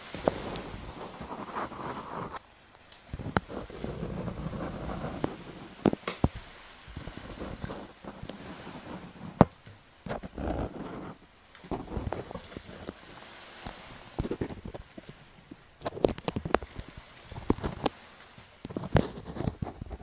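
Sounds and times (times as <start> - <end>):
ocean wave white noise: 0.0 - 20.0
scratching and rustling: 0.0 - 20.0.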